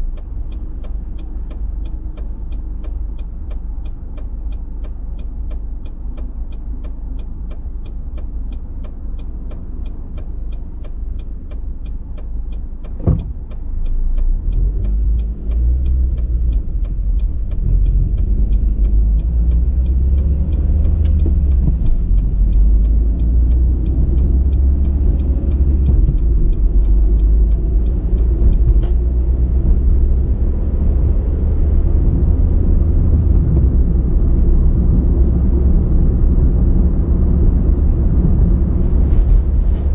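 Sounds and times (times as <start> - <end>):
car road and engine noise: 0.0 - 39.9
turn signal ticking: 0.0 - 39.9.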